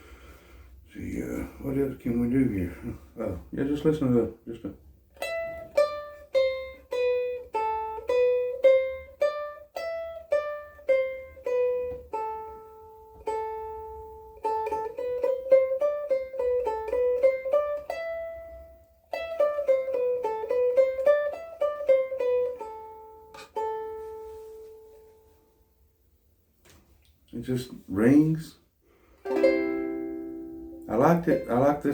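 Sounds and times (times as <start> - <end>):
ukulele picked melody: 1.7 - 25.8, 29.2 - 31.9.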